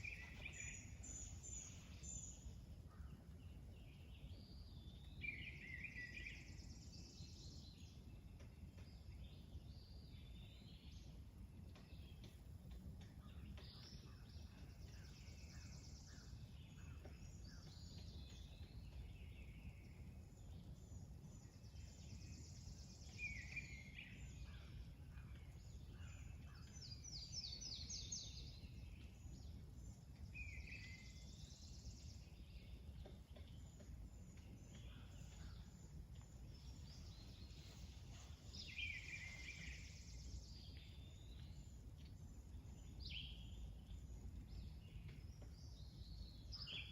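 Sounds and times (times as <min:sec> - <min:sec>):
birds chirping: 0:00.0 - 0:46.9
low background rumble: 0:00.0 - 0:46.9.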